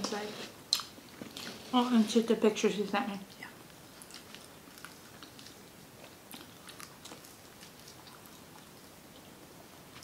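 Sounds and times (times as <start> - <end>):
faint chewing: 0.0 - 2.0, 3.2 - 10.0.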